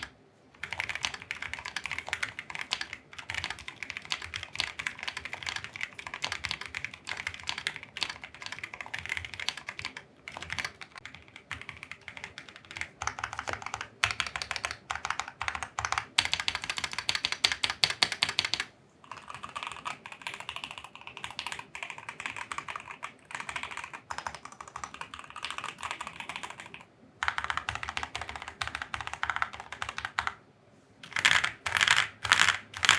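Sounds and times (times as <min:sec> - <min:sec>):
mechanical keyboard typing: 0:00.0 - 0:30.4, 0:31.0 - 0:32.9.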